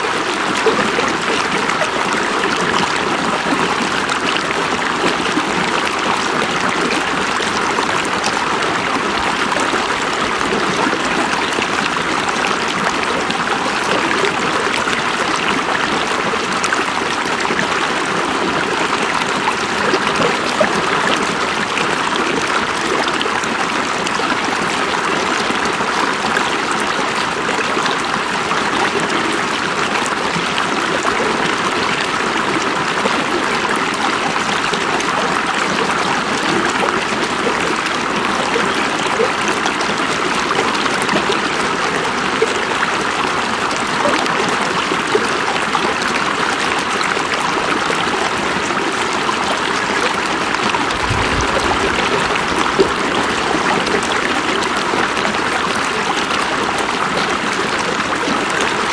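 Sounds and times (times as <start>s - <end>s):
river water flowing over stones: 0.0s - 58.9s.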